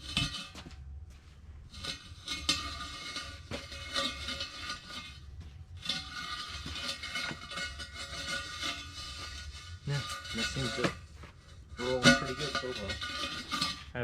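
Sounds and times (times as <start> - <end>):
metal wheel rim rolling on floor: 0.0 - 14.0.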